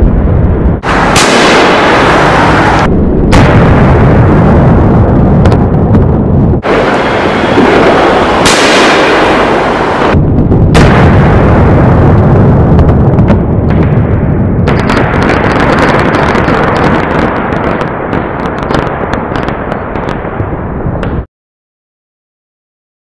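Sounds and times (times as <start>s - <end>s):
fireworks bangs: 0.0s - 21.3s
sharp firework crack: 0.8s - 21.3s.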